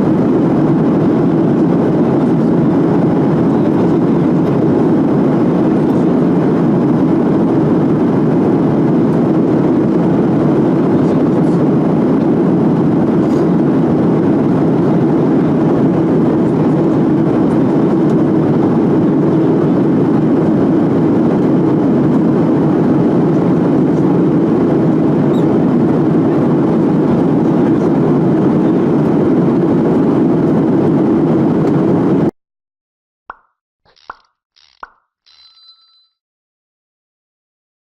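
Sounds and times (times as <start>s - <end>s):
jet engine roar inside cabin: 0.0s - 32.3s.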